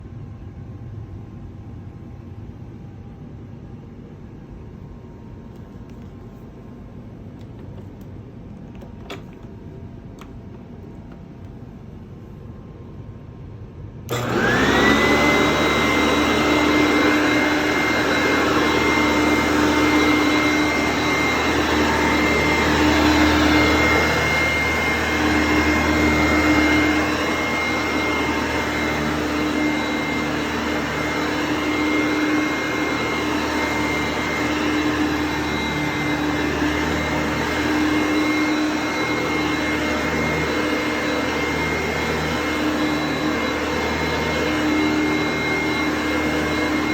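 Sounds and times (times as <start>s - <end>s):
vacuum cleaner motor whine: 4.7s - 13.1s, 14.0s - 46.9s.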